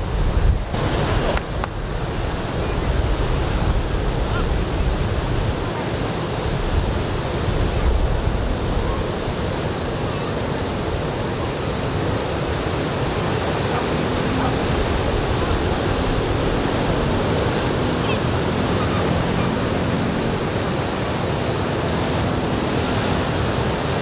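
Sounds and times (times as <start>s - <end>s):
ocean surf breaking on beach: 0.0s - 24.0s
wind buffeting microphone: 0.0s - 24.0s.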